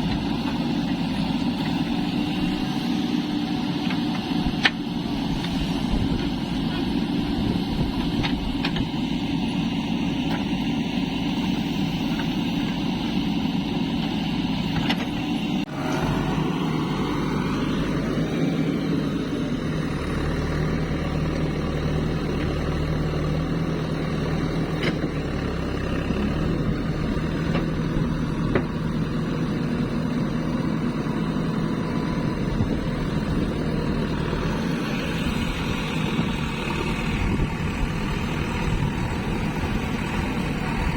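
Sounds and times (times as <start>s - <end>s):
diesel machinery engine running: 0.0s - 40.9s.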